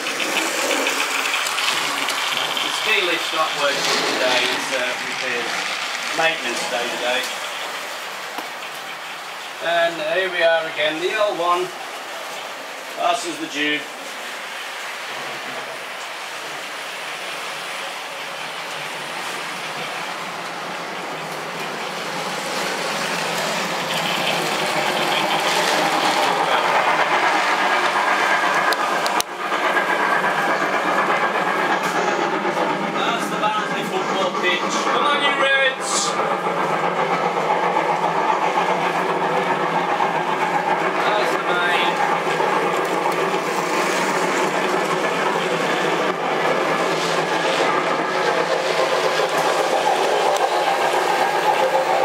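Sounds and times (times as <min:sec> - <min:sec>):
model train rattling whirr: 0:00.0 - 0:52.0.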